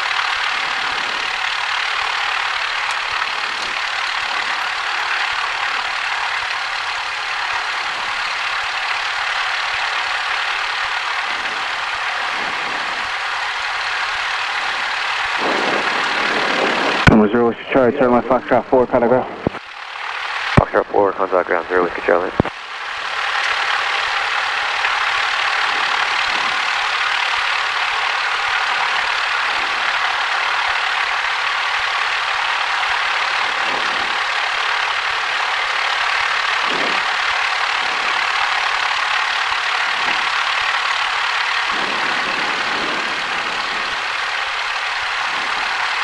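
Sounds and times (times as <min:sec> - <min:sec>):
aircraft engine drone in cockpit: 0:00.0 - 0:46.0.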